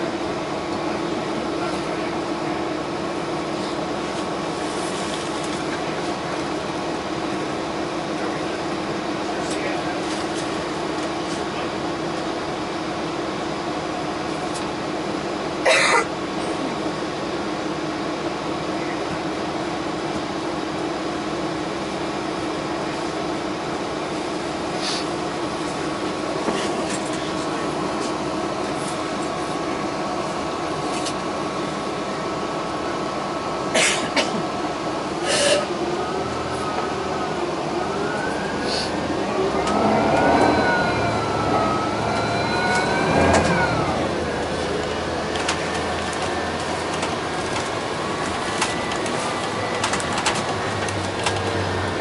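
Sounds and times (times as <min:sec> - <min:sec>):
bus engine and air-conditioning drone: 0:00.0 - 0:52.0.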